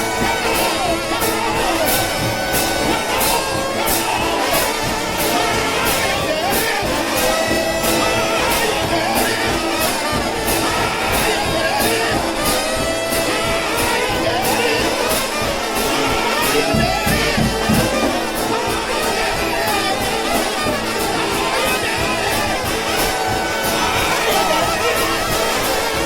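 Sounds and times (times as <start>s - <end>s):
brass band playing church music: 0.0s - 26.0s
cymbal beat: 0.0s - 26.0s.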